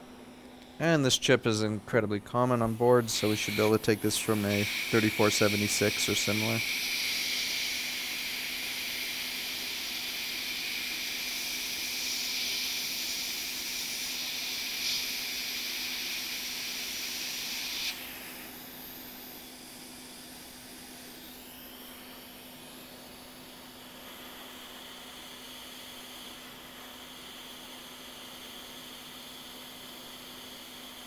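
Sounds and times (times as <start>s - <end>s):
hot air station hissing: 0.8s - 31.0s.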